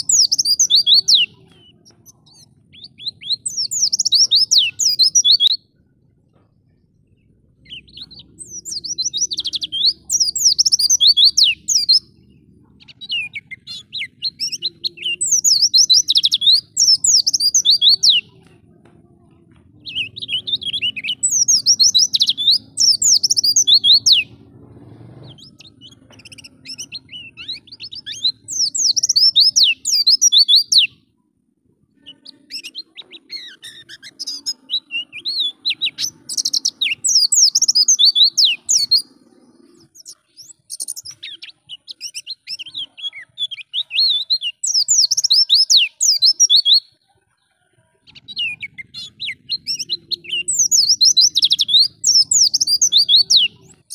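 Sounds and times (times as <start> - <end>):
bird high-pitched twittering song: 0.0 - 18.6, 19.5 - 31.1, 31.9 - 47.4, 48.0 - 53.9.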